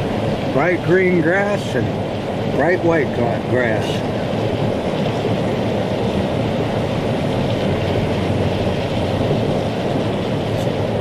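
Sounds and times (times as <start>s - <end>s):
steady low rushing noise: 0.0s - 11.0s.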